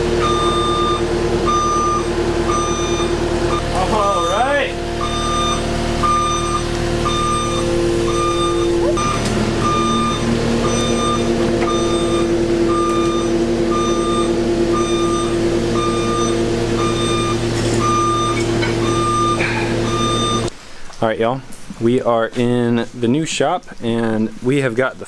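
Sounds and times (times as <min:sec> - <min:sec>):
reversing alarm beeping: 0:00.0 - 0:20.5
vehicle engine running: 0:00.0 - 0:20.5.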